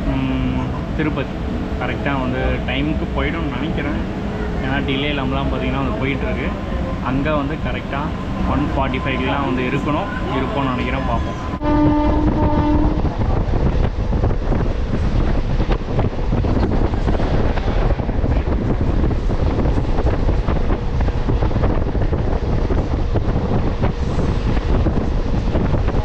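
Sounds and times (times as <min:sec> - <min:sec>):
electric train rumble: 0:00.0 - 0:26.0
wind buffeting microphone: 0:00.0 - 0:26.0.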